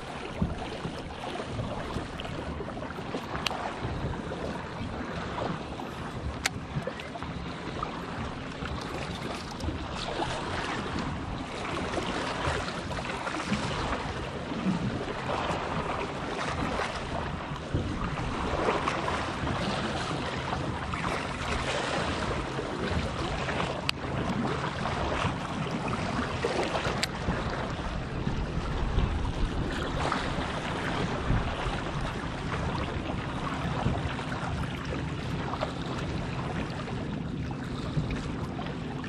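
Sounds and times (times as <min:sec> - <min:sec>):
sea water washing against rocks: 0:00.0 - 0:39.0
wind noise on microphone: 0:00.0 - 0:39.0.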